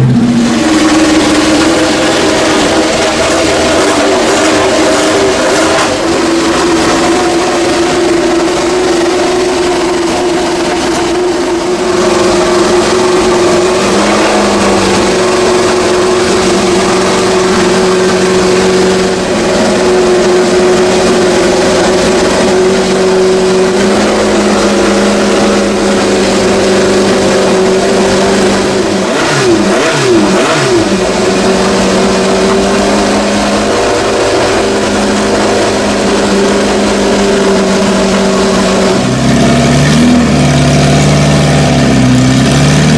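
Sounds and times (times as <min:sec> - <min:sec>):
racing car engines running: 0:00.0 - 0:42.9.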